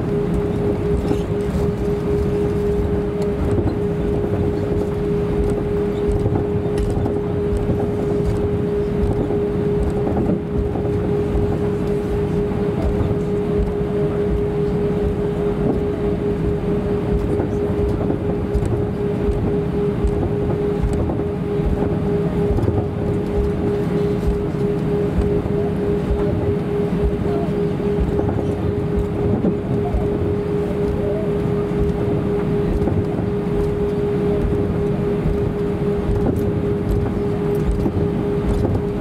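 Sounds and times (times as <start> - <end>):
aircraft cabin engine hum: 0.0 - 39.0
low rumble: 0.0 - 39.0.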